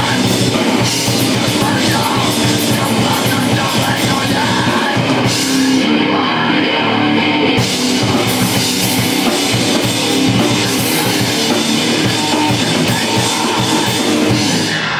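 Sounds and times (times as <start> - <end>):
loud heavy metal music: 0.0 - 14.9.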